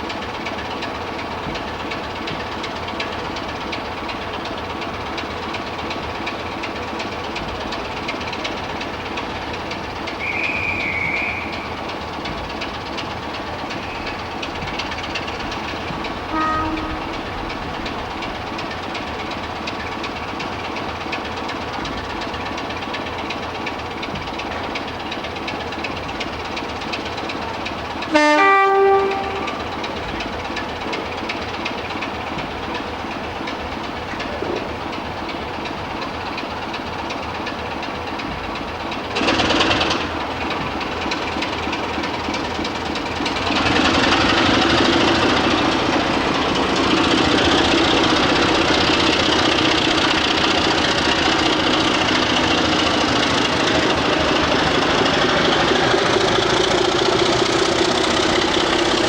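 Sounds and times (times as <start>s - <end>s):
diesel locomotive engine droning: 0.0s - 59.0s.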